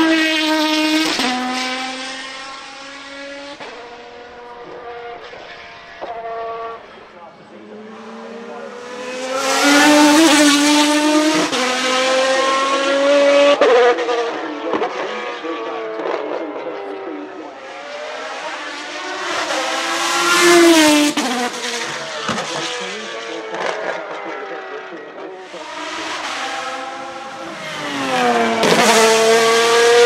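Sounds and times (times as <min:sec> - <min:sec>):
car engine revving high: 0:00.0 - 0:06.9, 0:07.7 - 0:30.0.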